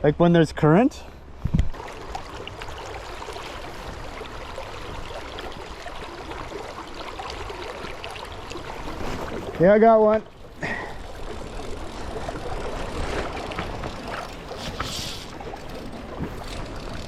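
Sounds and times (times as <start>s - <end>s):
river water rushing and gurgling: 1.2s - 17.0s.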